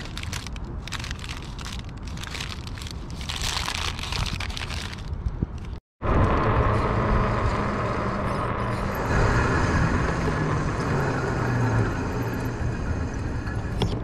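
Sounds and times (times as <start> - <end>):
low traffic engine hum: 0.0 - 14.0
tyres on asphalt: 0.0 - 14.0.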